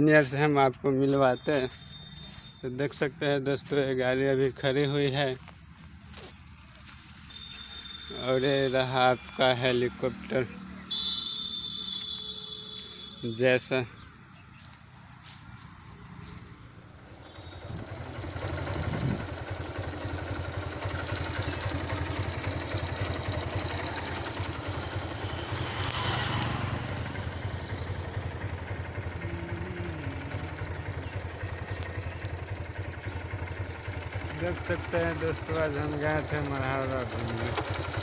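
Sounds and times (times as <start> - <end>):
motorcycle engine running: 0.2 - 38.0.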